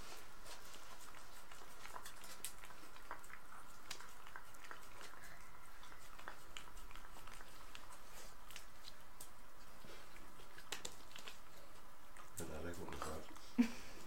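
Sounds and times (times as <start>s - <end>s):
dog chewing: 0.0s - 13.6s
faint steady hum: 0.0s - 14.0s.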